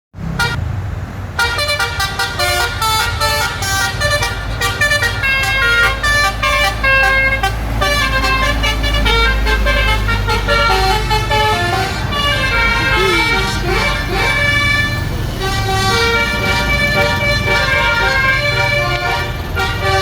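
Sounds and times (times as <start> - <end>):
bus engine rumble: 0.1 - 20.0
multi-note air horn melody: 1.4 - 20.0.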